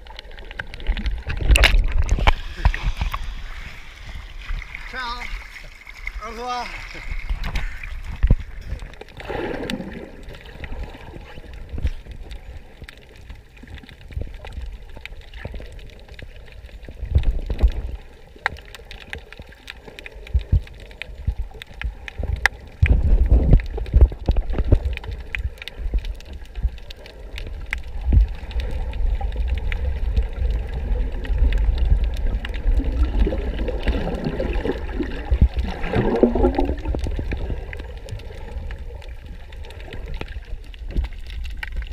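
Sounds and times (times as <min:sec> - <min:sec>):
underwater bubbling: 0:00.0 - 0:41.9.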